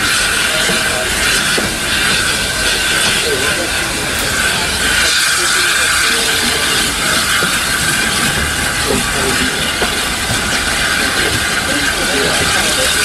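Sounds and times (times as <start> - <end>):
steam train running noise and hiss: 0.0 - 13.0.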